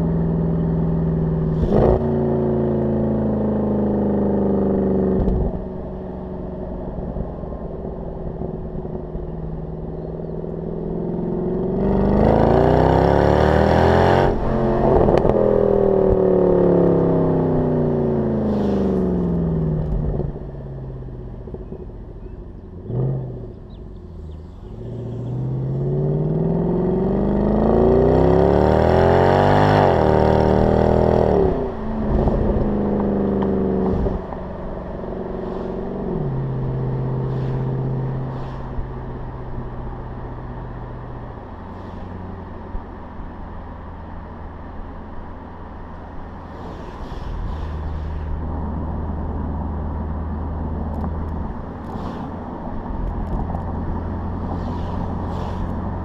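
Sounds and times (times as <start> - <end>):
car exhaust roaring: 0.0 - 56.0.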